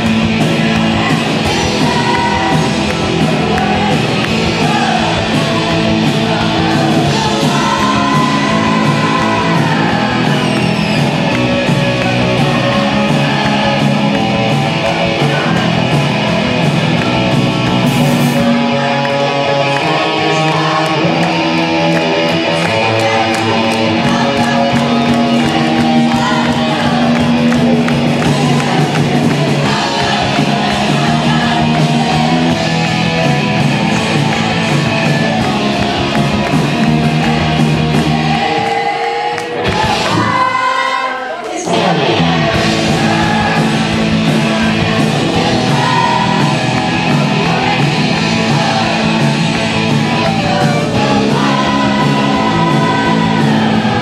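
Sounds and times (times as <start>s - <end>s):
crowd singing together: 0.0s - 54.0s
drums: 0.0s - 54.0s
electric guitar: 0.0s - 54.0s.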